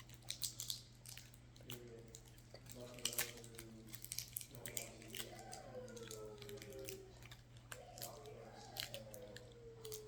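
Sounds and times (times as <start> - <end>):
small clicks and crackles: 0.0 - 10.0.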